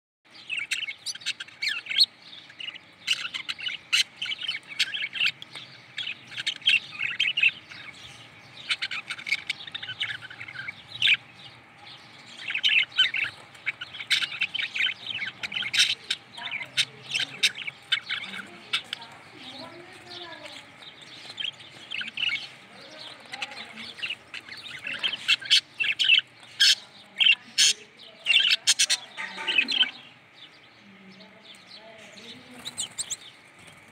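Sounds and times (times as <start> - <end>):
canaries chirping: 0.3 - 33.9.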